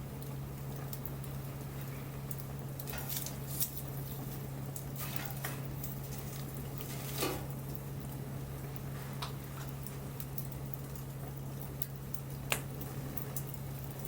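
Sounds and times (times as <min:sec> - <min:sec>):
bonfire crackling: 0:00.0 - 0:14.0
low steady hum: 0:00.0 - 0:14.0.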